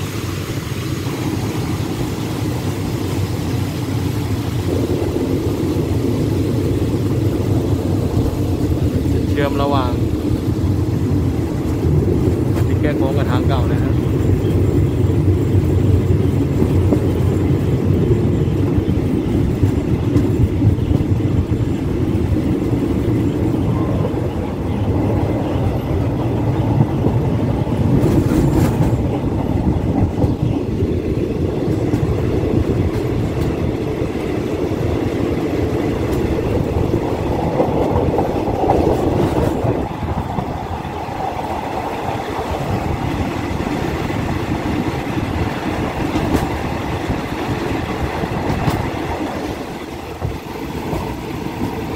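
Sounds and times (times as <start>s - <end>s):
rushing air: 0.0s - 51.9s
train clatter: 0.0s - 51.9s
train wheels rumbling on track: 0.0s - 51.9s.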